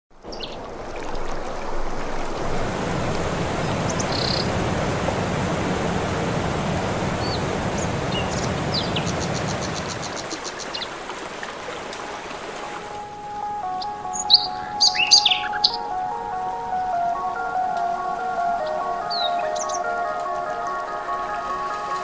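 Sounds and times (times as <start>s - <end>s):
river water rushing over rocks: 0.2s - 22.0s.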